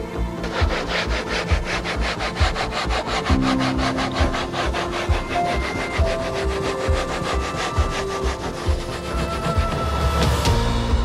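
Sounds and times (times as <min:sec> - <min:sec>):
fast scratchy rhythm: 0:00.3 - 0:10.3.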